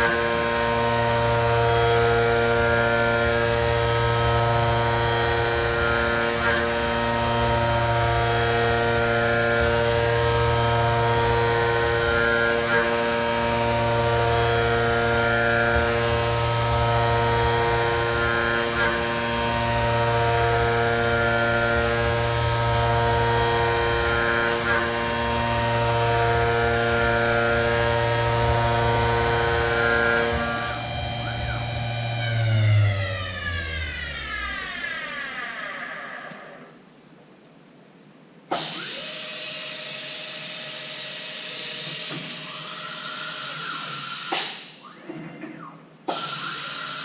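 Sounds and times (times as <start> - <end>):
milling machine whining: 0.0 - 36.8, 38.5 - 47.0.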